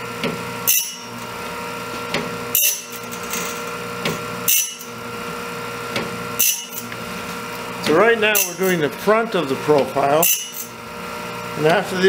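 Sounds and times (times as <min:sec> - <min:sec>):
motor hum: 0:00.0 - 0:12.0
grinding wheel rasping on blade: 0:00.6 - 0:12.0.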